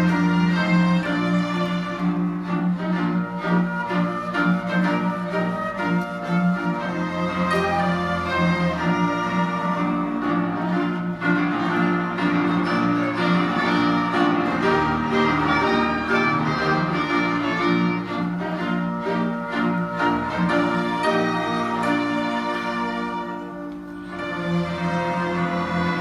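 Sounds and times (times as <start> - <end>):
piano: 0.0 - 26.0
violin and cello sustained notes: 0.0 - 26.0.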